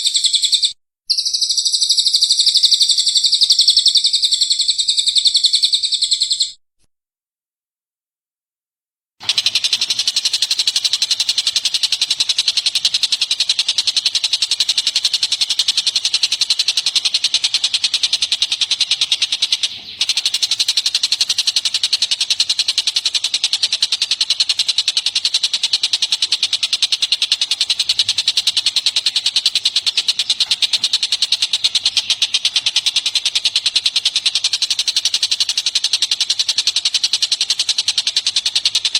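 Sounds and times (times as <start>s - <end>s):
bird chirping rapidly: 0.0s - 6.6s, 9.2s - 38.9s.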